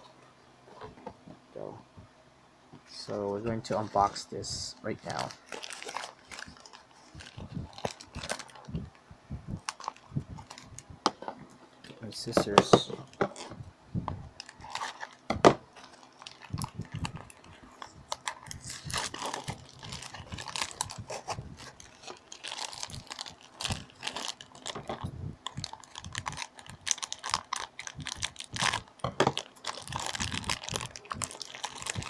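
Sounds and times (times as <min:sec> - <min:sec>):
plastic bag crinkling and rustling: 0:03.0 - 0:13.6, 0:14.4 - 0:32.0.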